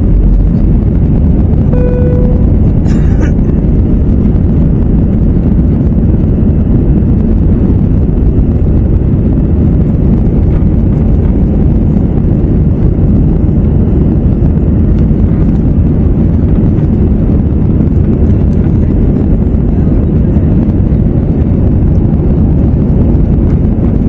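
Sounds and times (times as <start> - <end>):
airflow over fuselage: 0.0 - 24.0
jet engines rumbling: 0.0 - 24.0.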